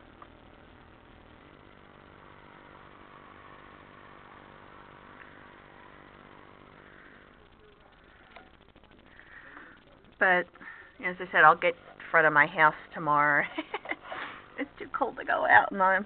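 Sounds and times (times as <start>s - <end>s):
faint vehicle engine running: 0.0s - 16.0s.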